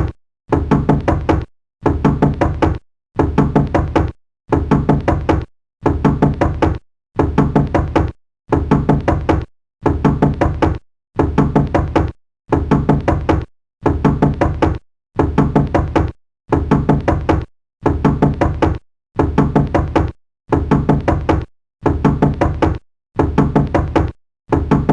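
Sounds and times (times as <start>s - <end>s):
knocking on a door: 0.0s - 24.9s.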